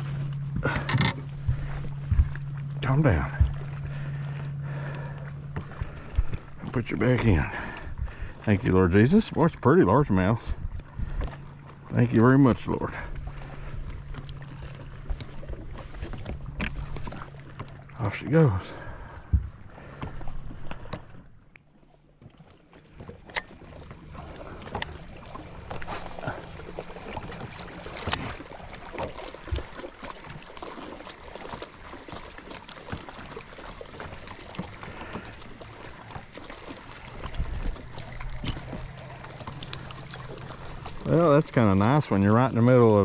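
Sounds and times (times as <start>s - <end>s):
water sloshing around boat: 0.0s - 43.0s.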